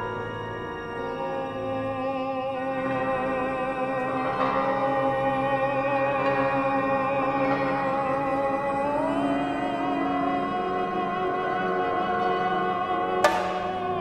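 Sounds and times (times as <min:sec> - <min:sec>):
orchestra holding sustained chord: 0:00.0 - 0:14.0.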